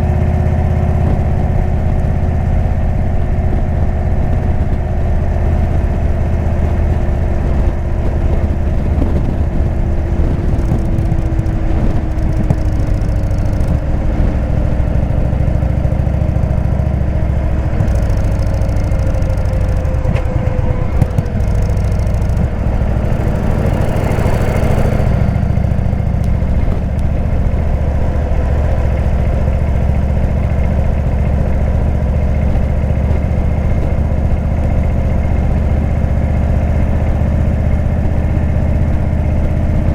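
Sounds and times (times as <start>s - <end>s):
motorcycle engine idling low: 0.0s - 39.9s.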